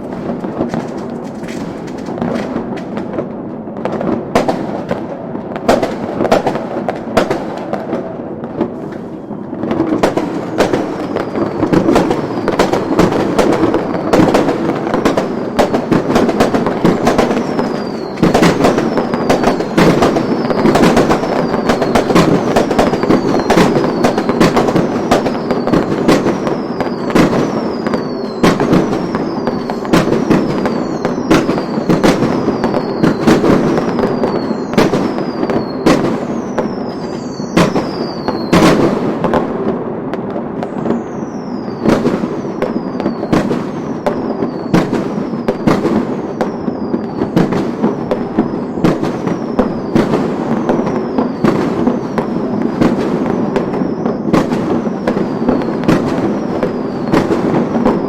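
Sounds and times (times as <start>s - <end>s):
falling whistle of fireworks: 0.0s - 58.0s
firework bangs: 0.0s - 58.0s
firework crackle: 0.0s - 58.0s.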